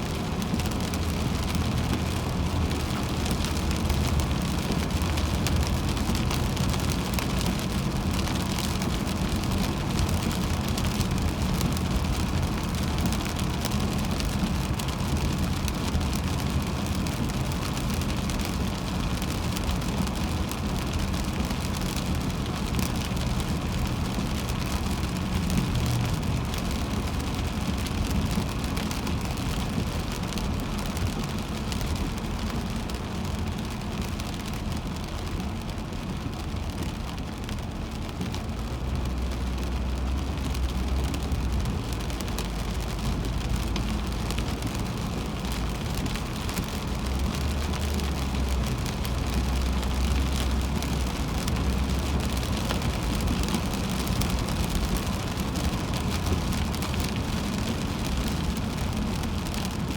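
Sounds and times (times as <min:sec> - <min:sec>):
rain pattering on car: 0:00.0 - 0:59.9
road and tyre noise: 0:00.0 - 0:59.9.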